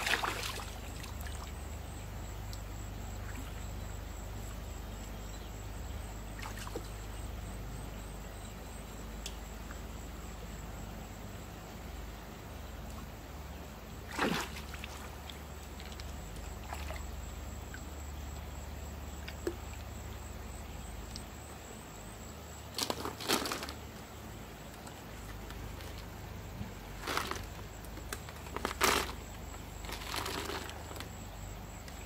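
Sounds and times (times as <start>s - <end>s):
stream water running: 0.0s - 8.7s, 9.4s - 32.0s.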